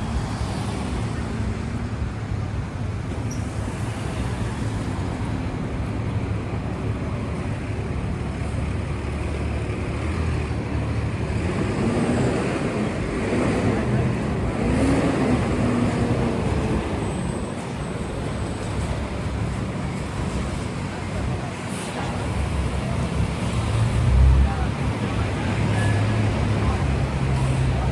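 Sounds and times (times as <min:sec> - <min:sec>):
vehicles passing: 0:00.0 - 0:27.9
passers-by talking: 0:00.6 - 0:27.9.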